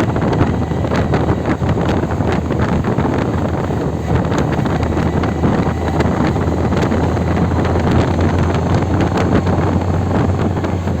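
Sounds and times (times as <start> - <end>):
vehicle low rumble: 0.0 - 11.0
wind buffeting microphone: 0.0 - 11.0.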